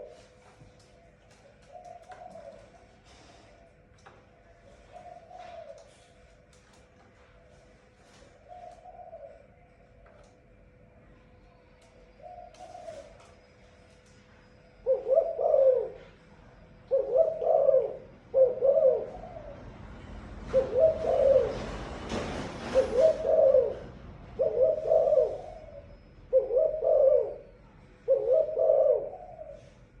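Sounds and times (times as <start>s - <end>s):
dove cooing: 0.0s - 6.5s, 7.2s - 9.8s, 12.1s - 13.6s, 14.7s - 19.8s, 20.4s - 21.8s, 22.6s - 30.0s.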